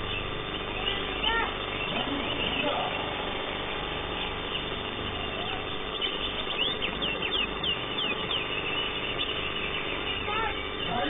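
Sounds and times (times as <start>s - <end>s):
bird singing sharp sliding notes: 0.0s - 11.0s
steady background noise: 0.0s - 11.0s.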